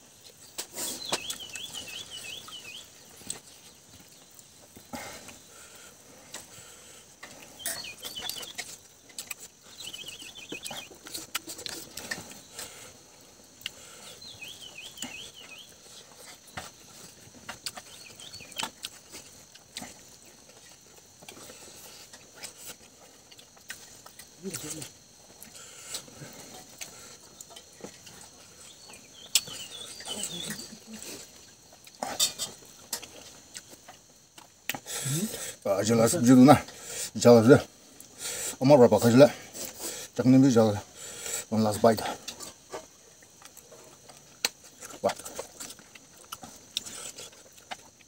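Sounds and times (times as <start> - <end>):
chewing and lip smacks: 0.2 - 5.5, 7.2 - 34.9, 42.1 - 48.0.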